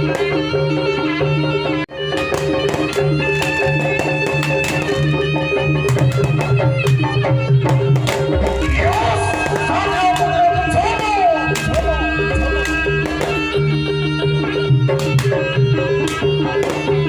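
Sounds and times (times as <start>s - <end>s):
instrumental music: 0.0s - 17.0s.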